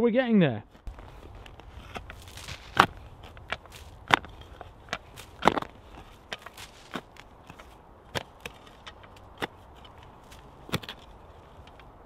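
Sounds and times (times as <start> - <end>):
spade chopping into soil: 0.9 - 11.0.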